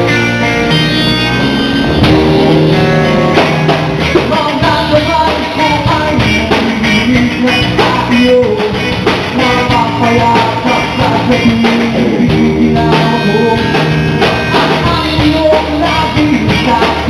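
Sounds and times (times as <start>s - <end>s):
bass guitar: 0.0s - 17.0s
electric guitar: 0.0s - 17.0s
steady drum beat: 0.0s - 17.0s.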